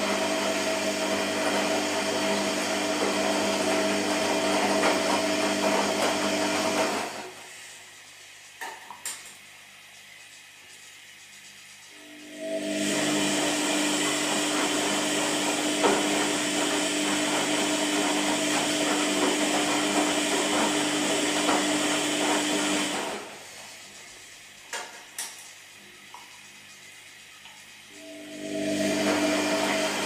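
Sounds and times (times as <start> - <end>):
washing machine churning: 0.0 - 30.0.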